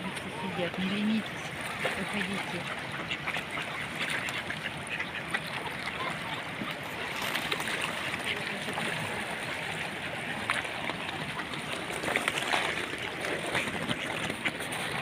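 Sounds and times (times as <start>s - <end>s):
ducks splashing and pecking: 0.0s - 15.0s
water washing: 0.0s - 15.0s.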